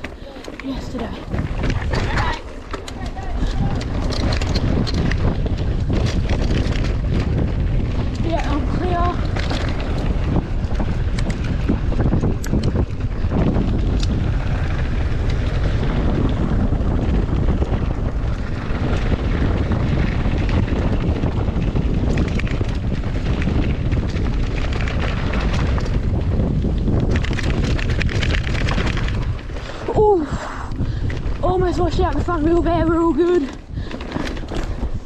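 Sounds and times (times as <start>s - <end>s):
bike chain and frame rattling: 0.0s - 35.0s
tyre noise on dirt: 0.0s - 35.0s
wind rushing over microphone: 0.0s - 35.0s.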